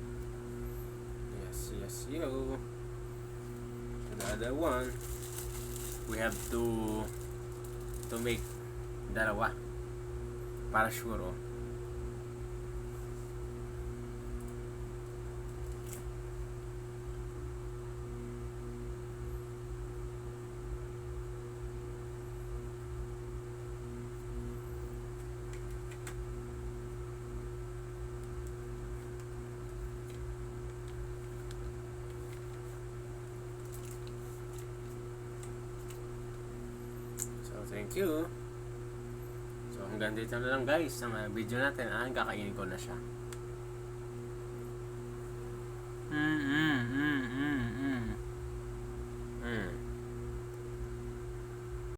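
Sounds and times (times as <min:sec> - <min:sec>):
electrical hum: 0:00.0 - 0:51.9.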